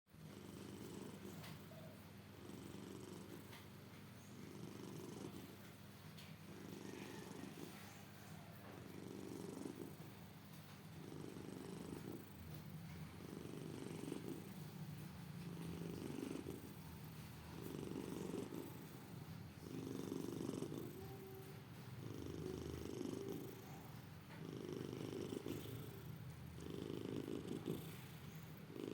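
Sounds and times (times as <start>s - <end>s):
cat snoring: 0.2s - 3.6s, 4.2s - 28.9s.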